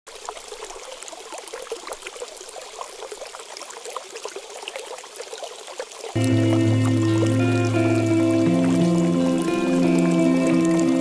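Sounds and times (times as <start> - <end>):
water trickling and splashing: 0.1 - 11.0.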